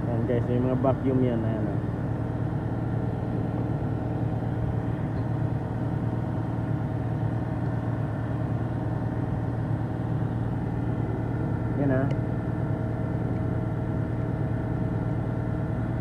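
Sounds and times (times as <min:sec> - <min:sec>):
engine idling with low hum: 0:00.0 - 0:16.0.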